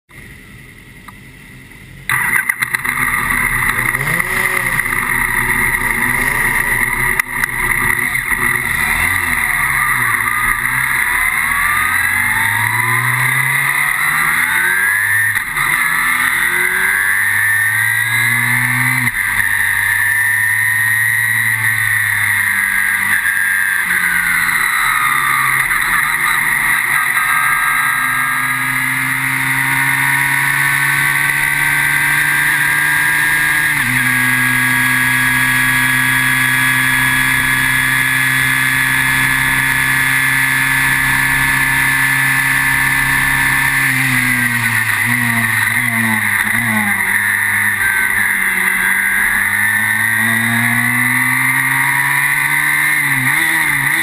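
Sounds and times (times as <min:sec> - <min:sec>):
race car engine revving: 0:02.0 - 0:54.0.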